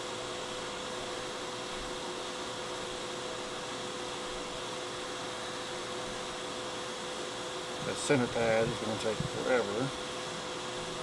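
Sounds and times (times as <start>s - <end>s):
faint constant hum: 0.0s - 11.0s
hot air blower hissing: 0.0s - 11.0s.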